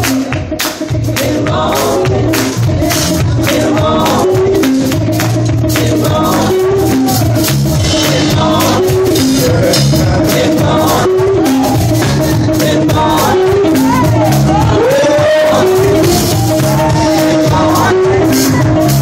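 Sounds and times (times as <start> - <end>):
band playing gospel music: 0.0 - 19.0
people singing: 0.0 - 19.0.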